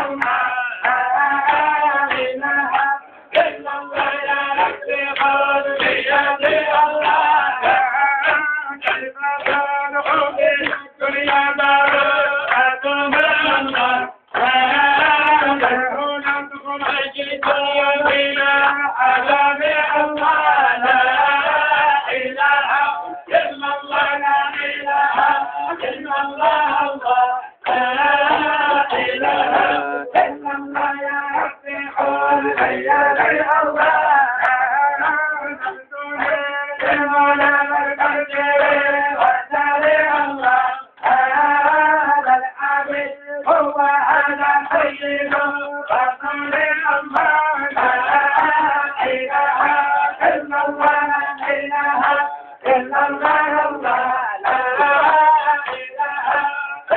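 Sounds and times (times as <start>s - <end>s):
men singing together: 0.0s - 56.9s
rhythmic hand-clapping: 0.0s - 56.9s.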